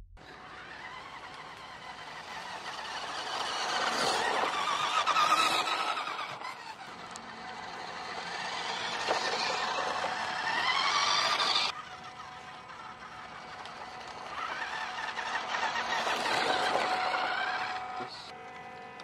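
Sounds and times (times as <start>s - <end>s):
toy truck electric motor whine: 0.2s - 19.0s.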